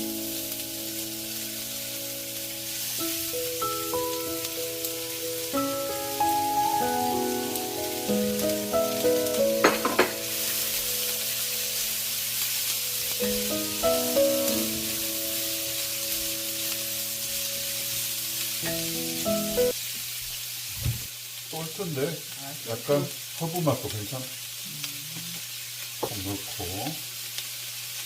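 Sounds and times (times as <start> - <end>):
food sizzling in frying pan: 0.0 - 28.0.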